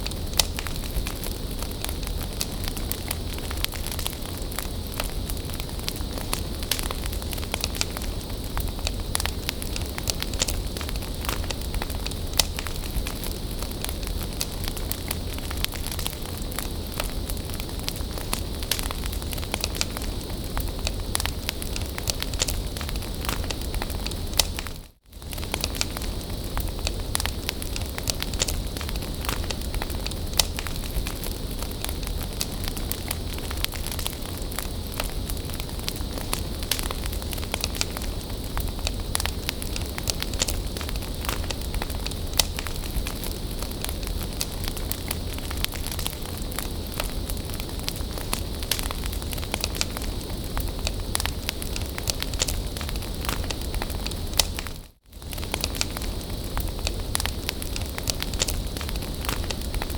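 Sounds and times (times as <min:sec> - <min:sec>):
bonfire rumble and hiss: 0:00.0 - 0:59.9
fire crackling and popping: 0:00.0 - 0:59.9.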